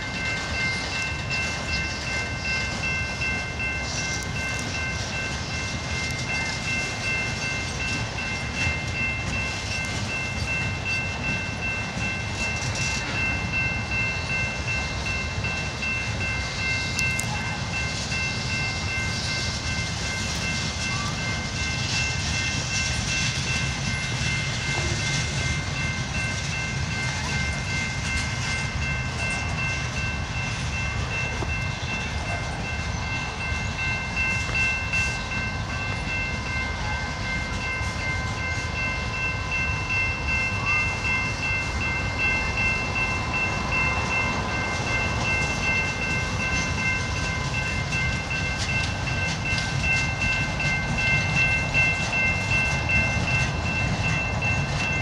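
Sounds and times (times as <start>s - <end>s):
freight train wheels rumbling: 0.0s - 55.0s
high-pitched ringing tone: 0.0s - 55.0s.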